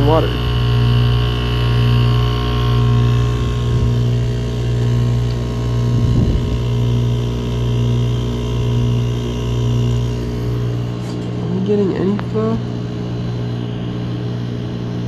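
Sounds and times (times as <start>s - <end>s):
heat pump humming: 0.0s - 15.0s.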